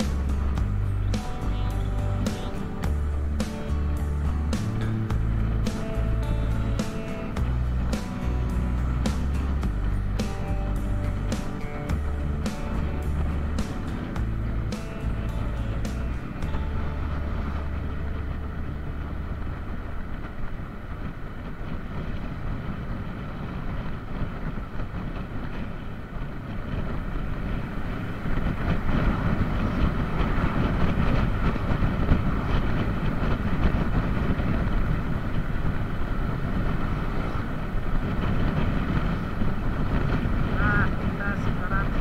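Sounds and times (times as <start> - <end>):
road noise: 0.0 - 42.0
wind rushing over microphone: 0.0 - 42.0.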